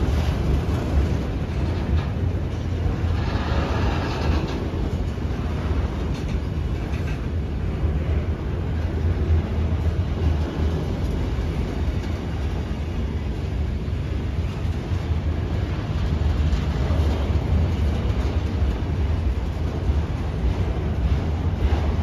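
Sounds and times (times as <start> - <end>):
freight cars rumbling on rails: 0.0 - 22.0.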